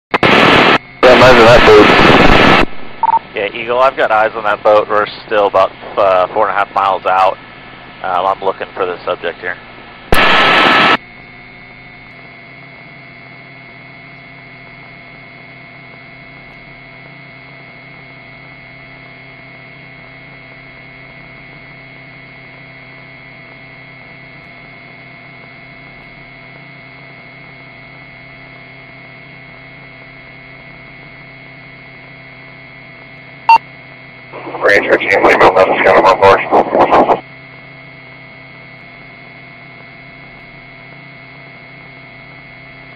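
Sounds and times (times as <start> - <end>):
steady electrical hum: 0.2 - 42.9.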